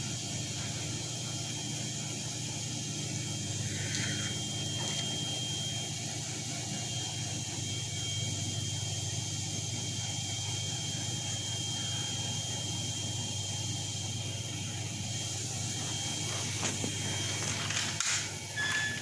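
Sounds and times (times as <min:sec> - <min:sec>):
laser cutter humming and whining: 0:00.0 - 0:19.0.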